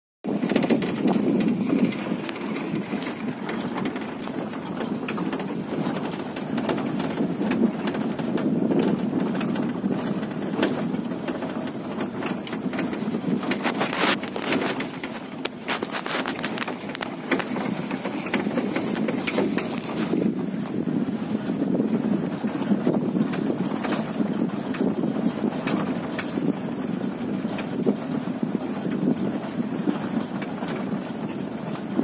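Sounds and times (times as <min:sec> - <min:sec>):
vehicle engine and road noise: 0:00.2 - 0:32.0
rattles and knocks: 0:00.3 - 0:32.0.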